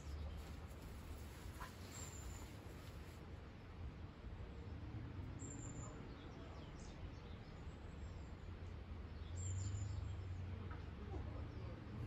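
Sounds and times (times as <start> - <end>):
small birds chirping: 0.0 - 3.2, 5.4 - 12.0.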